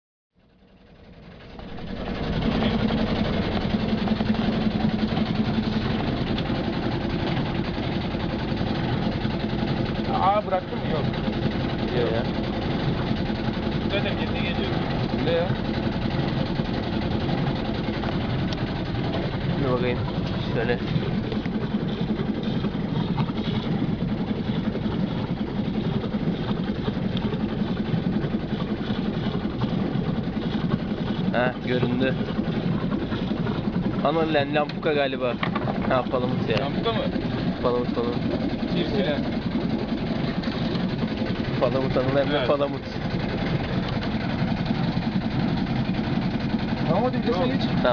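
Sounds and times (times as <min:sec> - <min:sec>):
boat engine humming: 0:00.4 - 0:47.9
rushing water of moving boat: 0:00.4 - 0:47.9.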